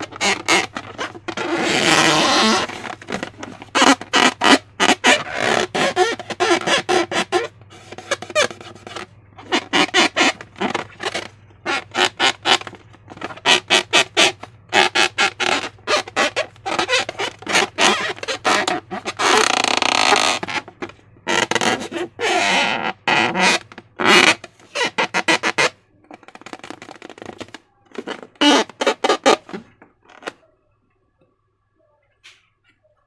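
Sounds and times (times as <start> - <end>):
slime squelching and squeaking: 0.0 - 30.4.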